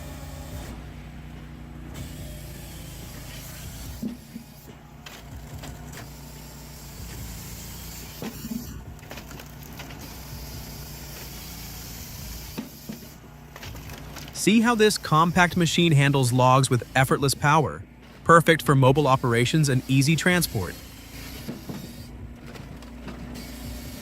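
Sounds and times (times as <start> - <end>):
engine and hydraulic drone: 0.0 - 24.0.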